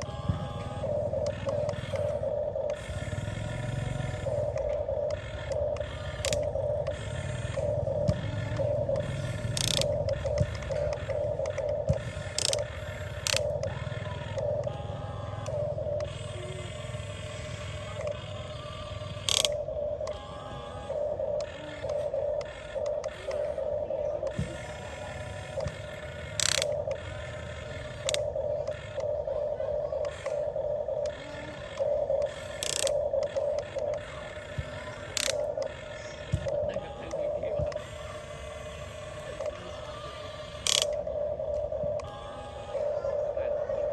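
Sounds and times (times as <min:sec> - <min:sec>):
gear-like mechanical clatter: 0:00.0 - 0:23.6, 0:24.2 - 0:29.2, 0:30.0 - 0:41.0
small electric motors whirring: 0:00.0 - 0:43.9.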